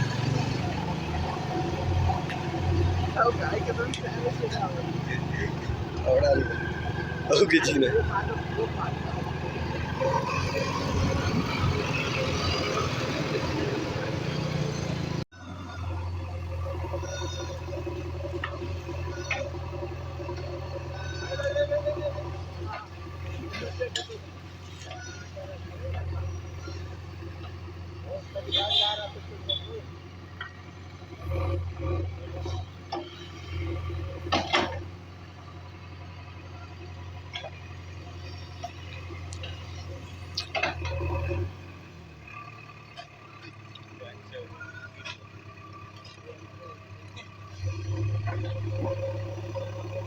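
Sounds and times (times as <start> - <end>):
diesel machinery engine running: 0.0 - 50.0.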